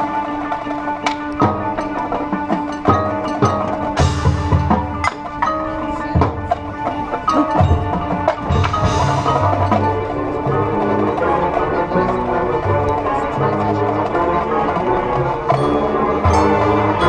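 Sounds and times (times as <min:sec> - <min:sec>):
mallet percussion notes: 0:00.0 - 0:17.0
marching band playing: 0:00.0 - 0:17.0.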